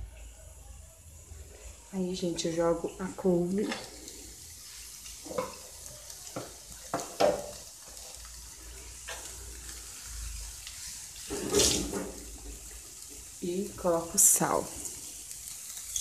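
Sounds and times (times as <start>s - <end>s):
greens sizzling in oil: 0.0s - 16.0s
sharp crackles: 2.9s - 16.0s.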